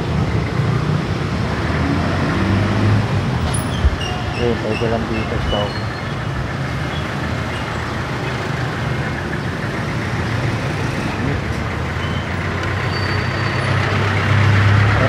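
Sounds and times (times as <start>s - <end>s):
passing road vehicles: 0.0s - 15.0s.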